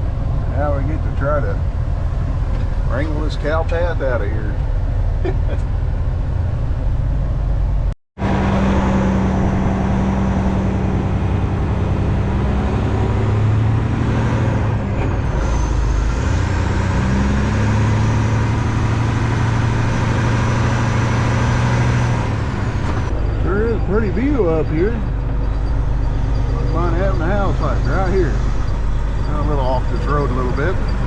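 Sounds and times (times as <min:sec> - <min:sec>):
truck diesel engine under load: 0:00.0 - 0:31.0.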